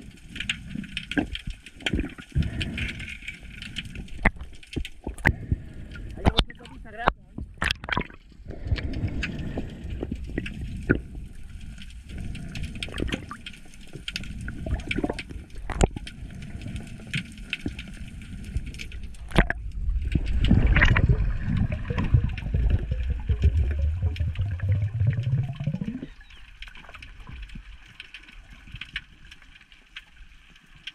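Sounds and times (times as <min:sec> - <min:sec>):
muffled underwater rushing: 0:00.0 - 0:29.4.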